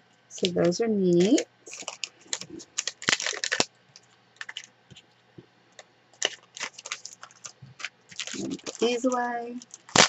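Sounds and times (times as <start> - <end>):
packets crinkling on a tabletop: 1.2 - 5.1, 5.8 - 10.0.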